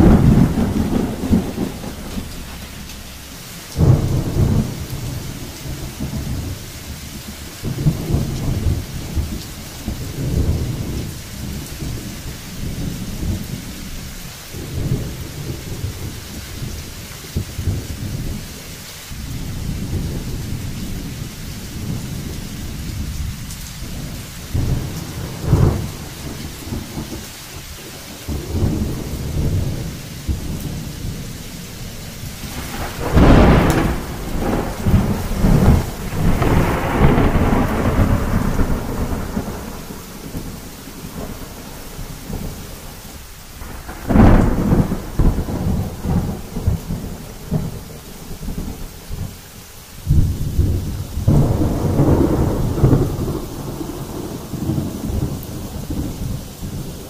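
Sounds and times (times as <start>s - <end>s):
loud thunderclap: 0.0s - 6.6s, 7.6s - 16.8s, 19.4s - 27.2s, 32.2s - 42.7s, 43.6s - 49.3s, 50.1s - 57.0s
thunder rumbling: 0.0s - 49.4s, 50.0s - 57.0s
steady rain: 0.0s - 57.0s.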